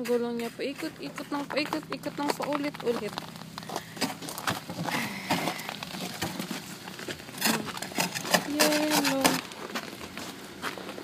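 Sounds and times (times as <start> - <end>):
footsteps crunching on icy snow: 0.0 - 11.0.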